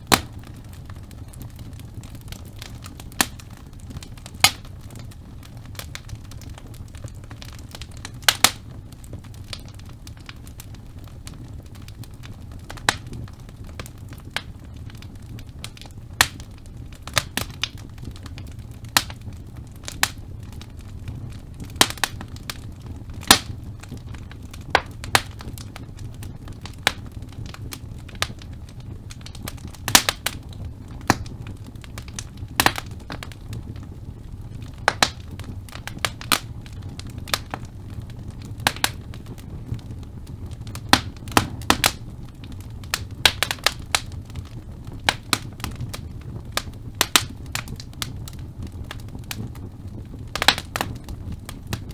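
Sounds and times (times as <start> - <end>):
logs crackling and popping: 0.0 - 51.9
low rumble of flame: 0.0 - 51.9.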